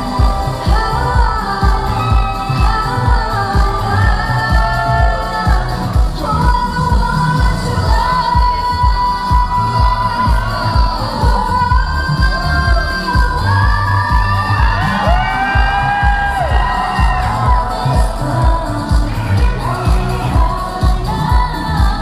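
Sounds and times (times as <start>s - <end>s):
dance backing track with kick drum: 0.0s - 22.0s
women singing: 0.0s - 22.0s.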